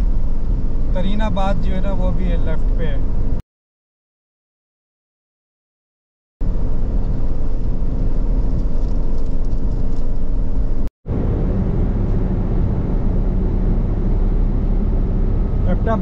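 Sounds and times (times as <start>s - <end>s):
car road and engine noise: 0.0s - 3.4s, 6.4s - 16.0s.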